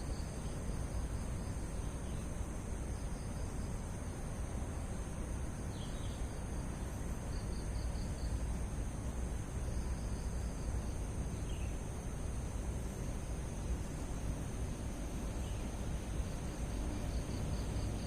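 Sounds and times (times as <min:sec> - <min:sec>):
faint insect chirps: 0:00.0 - 0:18.0
insects droning: 0:00.0 - 0:18.0.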